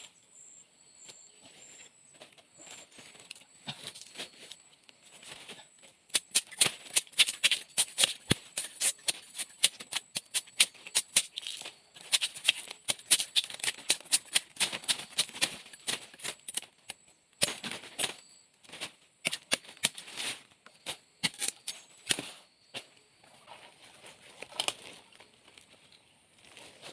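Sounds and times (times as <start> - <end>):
dry leaves and twigs crackling: 1.0 - 26.9.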